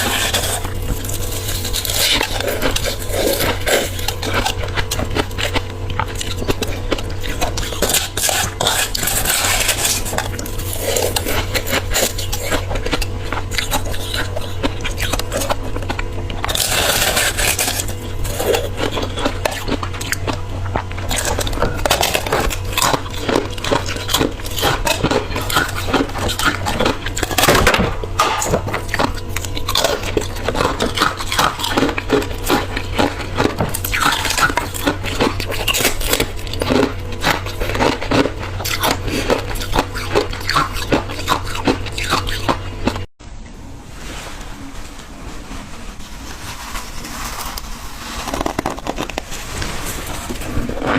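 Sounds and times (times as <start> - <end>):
chewing crunchy ice: 0.0 - 43.1, 47.1 - 50.9
low hum: 0.0 - 50.9.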